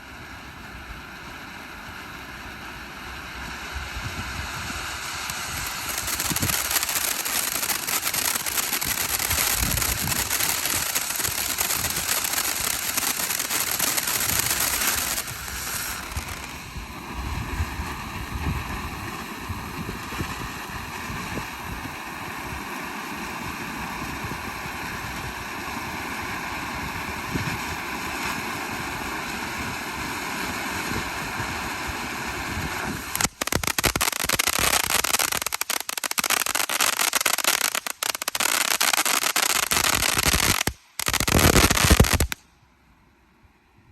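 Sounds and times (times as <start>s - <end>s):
firework rapid crackling: 0.0s - 42.4s
fountain firework hissing rush: 0.0s - 42.4s.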